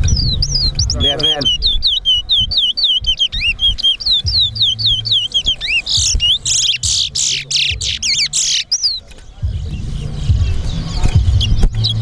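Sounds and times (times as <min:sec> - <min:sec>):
buzzy downsweeping bird notes: 0:00.0 - 0:12.0
finch singing whistled notes: 0:00.0 - 0:12.0.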